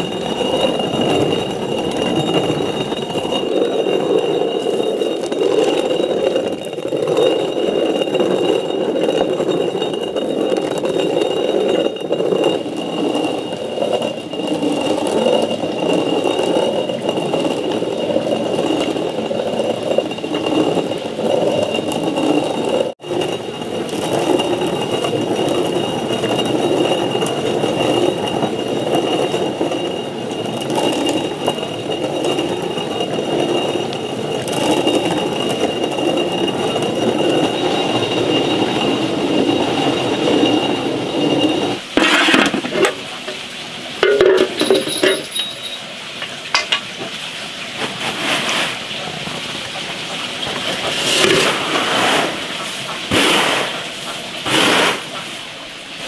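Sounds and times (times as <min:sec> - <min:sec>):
stone quern grinding corn: 0:00.0 - 0:55.4.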